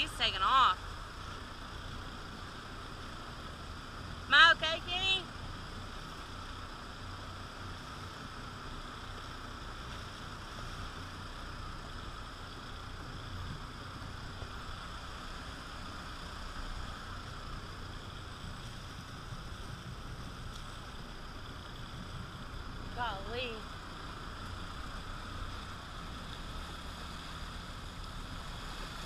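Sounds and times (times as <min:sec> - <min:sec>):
boat engine running: 0:00.0 - 0:29.0
water noise: 0:00.0 - 0:29.0
wind: 0:00.0 - 0:29.0.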